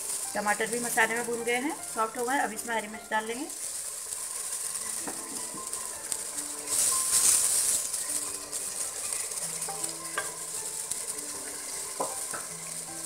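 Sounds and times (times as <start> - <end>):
sauce frying and sizzling: 0.0 - 13.0.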